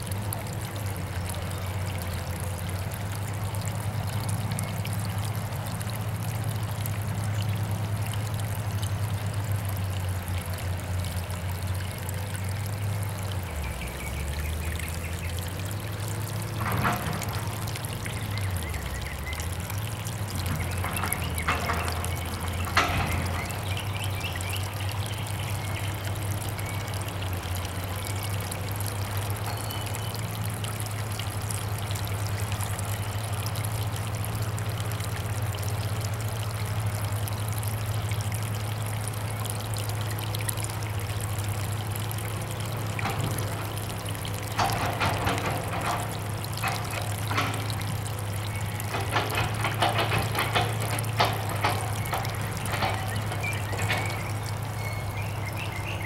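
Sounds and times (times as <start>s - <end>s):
water trickling over rocks: 0.0s - 56.0s.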